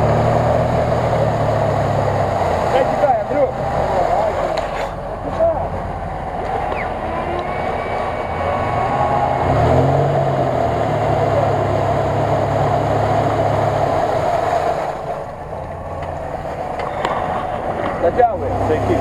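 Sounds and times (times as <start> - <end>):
car engine revving: 0.0 - 19.0
tyres churning muddy water: 0.0 - 19.0.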